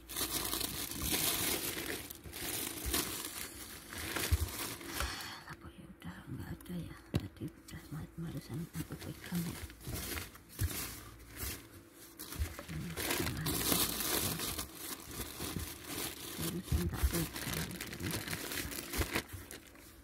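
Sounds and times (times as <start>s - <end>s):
packaging crinkling and rustling: 0.0s - 5.4s, 8.7s - 20.0s.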